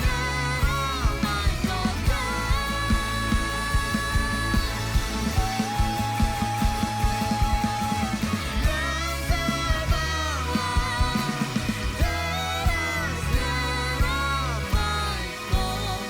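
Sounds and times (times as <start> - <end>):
drum beat: 0.0 - 15.0
sliding lead melody: 0.0 - 16.0
sustained bass: 0.0 - 16.0.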